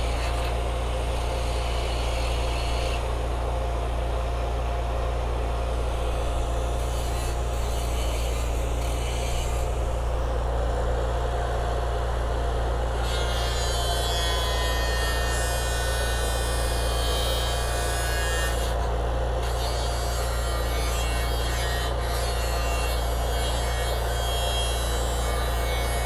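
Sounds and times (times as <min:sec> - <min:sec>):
welder engine humming: 0:00.0 - 0:26.0.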